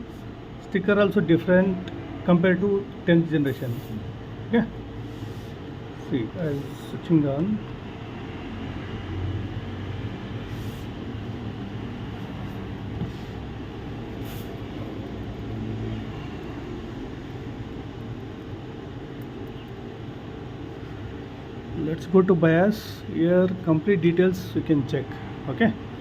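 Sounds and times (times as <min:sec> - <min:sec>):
machinery hum and hiss: 0:00.0 - 0:26.0.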